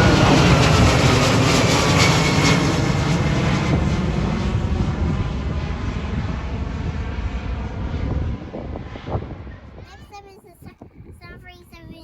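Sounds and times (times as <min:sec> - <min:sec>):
jet airliner departing: 0:00.0 - 0:11.3.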